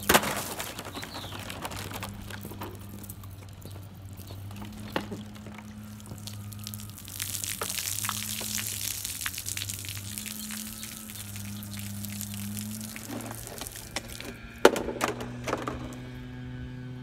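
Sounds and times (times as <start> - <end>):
water splashing onto pavement: 0.0 - 15.2
low hum: 0.0 - 17.0.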